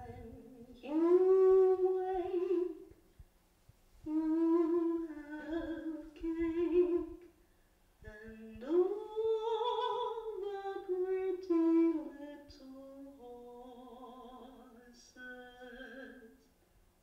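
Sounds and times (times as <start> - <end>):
person singing wordless melody: 0.0 - 3.0, 4.1 - 7.2, 8.0 - 16.4.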